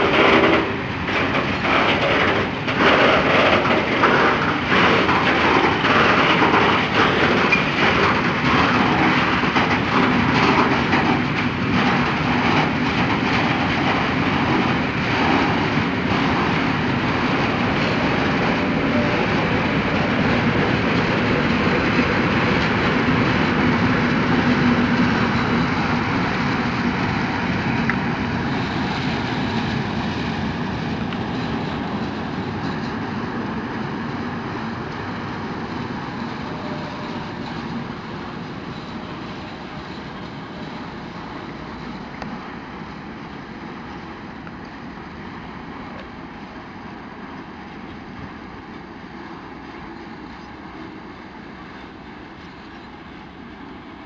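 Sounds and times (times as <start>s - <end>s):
diesel locomotive hum: 0.0s - 54.0s
train wheels clacking over rail joints: 0.0s - 54.0s.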